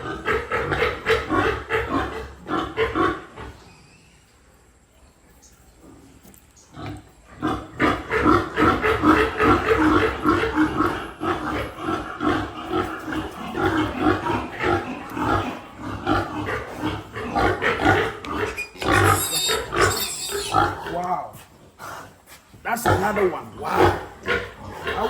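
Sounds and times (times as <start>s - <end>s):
piglets squealing and grunting: 0.0s - 4.1s, 6.7s - 21.2s, 21.9s - 25.0s.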